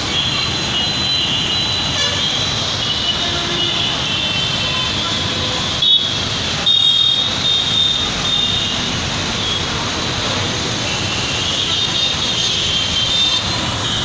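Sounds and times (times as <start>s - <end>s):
busy road traffic: 0.0s - 14.0s.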